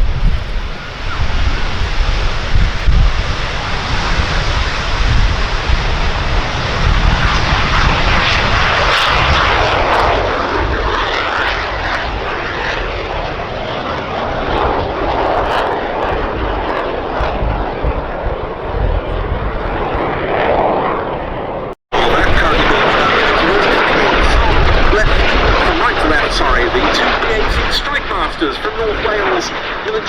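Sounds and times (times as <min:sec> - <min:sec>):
jet engine rush: 0:00.0 - 0:30.0.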